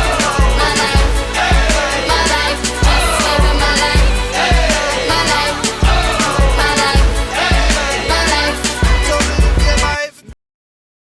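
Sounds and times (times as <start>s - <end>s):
hip hop music with heavy beat: 0.0s - 10.2s.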